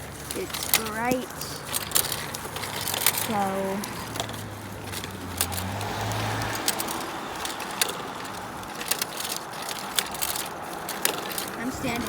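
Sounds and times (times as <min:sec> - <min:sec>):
wheels rumbling on pavement: 0:00.0 - 0:12.0.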